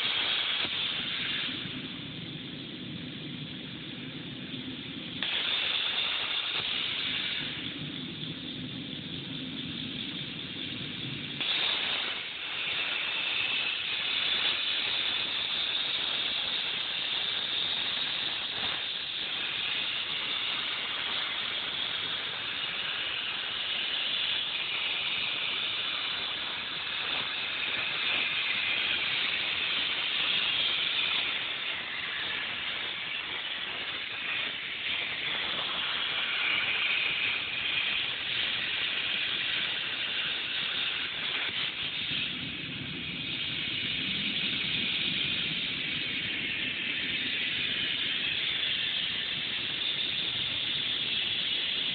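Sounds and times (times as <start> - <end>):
plasma cutter arc hissing: 0.0 - 51.9.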